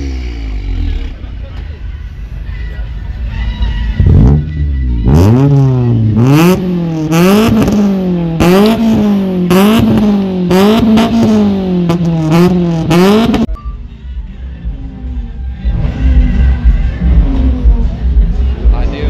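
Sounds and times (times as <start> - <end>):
car engine revving: 0.0 - 1.5, 3.1 - 13.5, 14.6 - 19.0.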